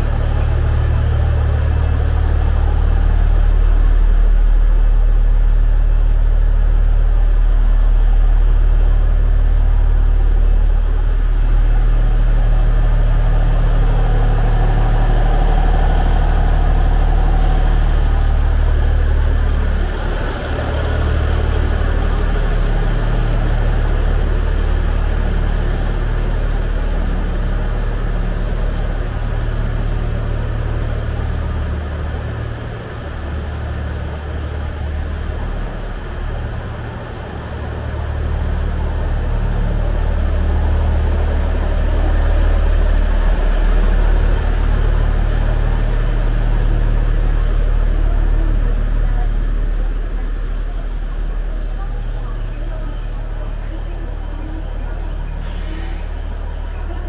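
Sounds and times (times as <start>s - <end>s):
diesel train engines idling: 0.0s - 57.0s.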